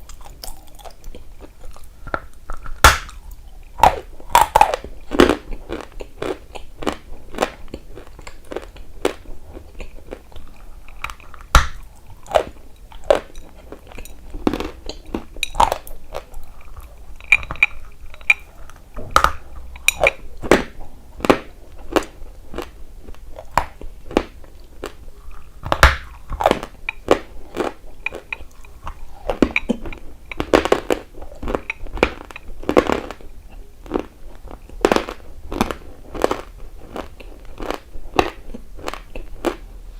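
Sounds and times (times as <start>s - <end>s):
crunchy chewing: 0.0s - 39.8s.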